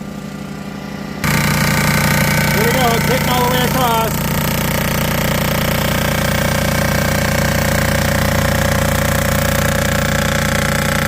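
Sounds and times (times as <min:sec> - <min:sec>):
machine cutting metal with chatter: 0:01.2 - 0:10.2.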